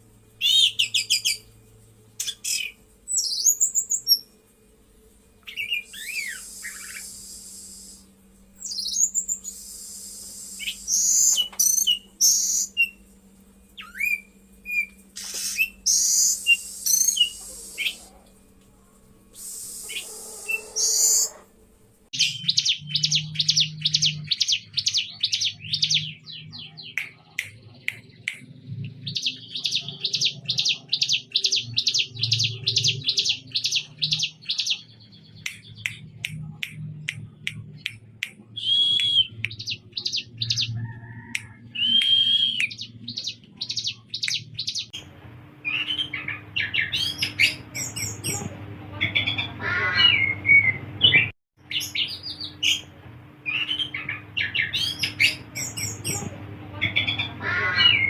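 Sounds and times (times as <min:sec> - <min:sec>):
songbird singing: 0:00.4 - 0:04.4, 0:05.4 - 0:18.5, 0:19.4 - 0:21.5, 0:22.1 - 0:45.0, 0:45.6 - 0:58.0.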